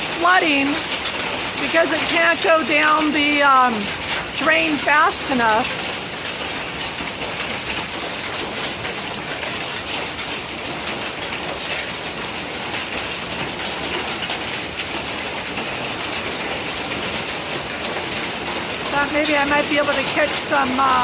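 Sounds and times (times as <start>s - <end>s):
hail clattering on rooftop: 0.0s - 21.0s
rain pouring: 0.0s - 21.0s.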